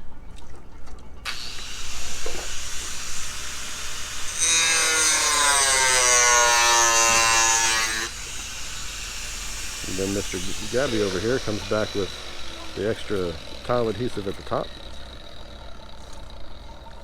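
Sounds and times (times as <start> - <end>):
motor whine: 1.2 - 17.0
power tool cutting: 1.3 - 17.0.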